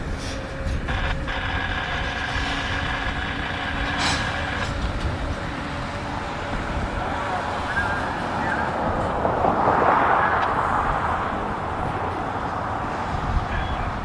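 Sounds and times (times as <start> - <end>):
freight train rumbling: 0.0 - 14.0
wind buffeting microphone: 0.0 - 14.0.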